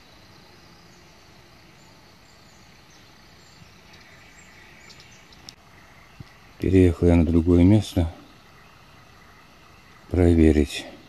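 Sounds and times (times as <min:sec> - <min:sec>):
faint forest ambience: 0:00.0 - 0:11.0.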